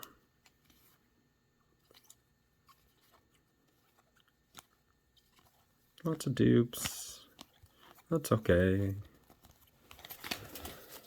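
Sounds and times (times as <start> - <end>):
cards being shuffled: 1.7 - 11.0.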